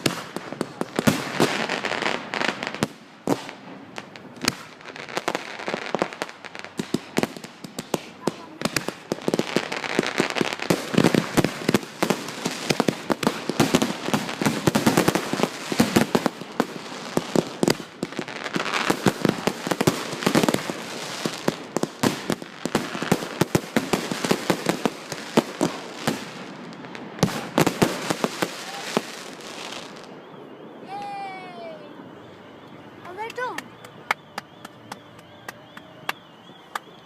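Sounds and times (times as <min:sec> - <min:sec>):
fireworks banging and crackling: 0:00.0 - 0:37.0.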